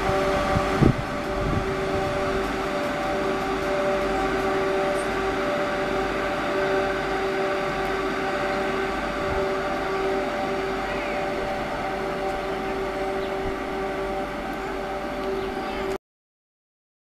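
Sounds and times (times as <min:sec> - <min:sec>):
rushing noise: 0:00.0 - 0:15.9
electric locomotive hum: 0:00.0 - 0:16.0.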